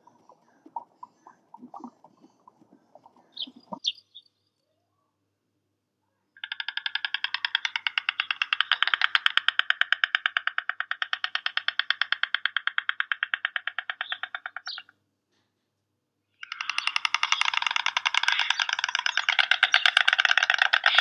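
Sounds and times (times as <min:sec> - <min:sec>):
stork clattering its bill: 0:00.0 - 0:03.9, 0:06.4 - 0:14.9, 0:16.4 - 0:21.0.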